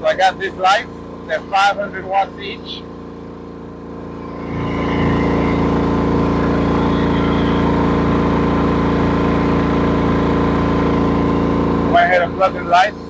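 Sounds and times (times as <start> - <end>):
generator engine droning: 0.0 - 13.0.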